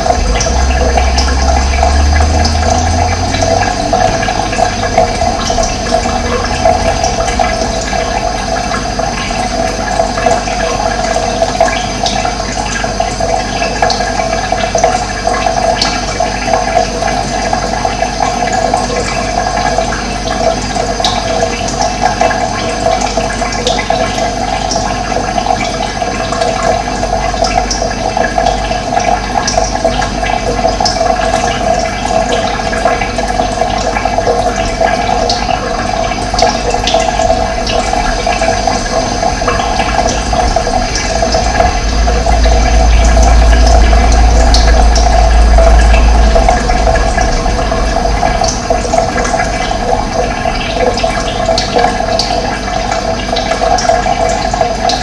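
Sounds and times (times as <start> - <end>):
running water gurgling: 0.0 - 55.0.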